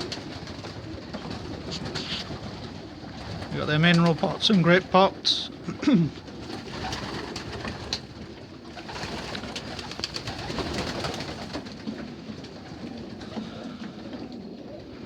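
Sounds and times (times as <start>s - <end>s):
pigeons cooing softly: 0.0s - 15.0s.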